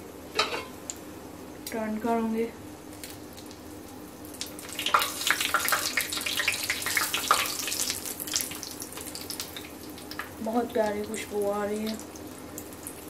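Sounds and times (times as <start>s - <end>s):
hot oil sizzling and crackling: 0.2s - 13.0s.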